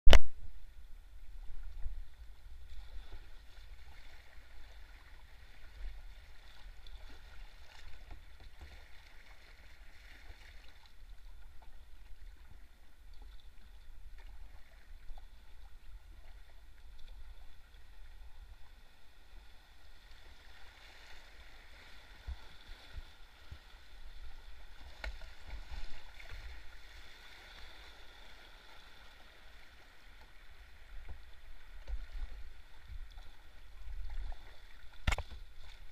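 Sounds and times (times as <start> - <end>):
river water rippling and gurgling: 0.1 - 35.9.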